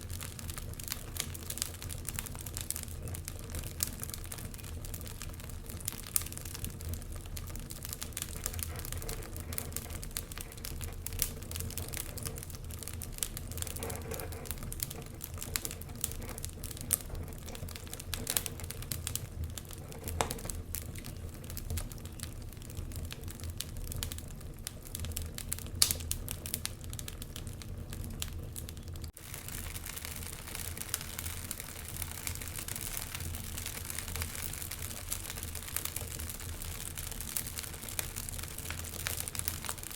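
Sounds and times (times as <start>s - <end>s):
low rumble of flames: 0.0s - 39.9s
wood fire popping and snapping: 0.0s - 39.9s.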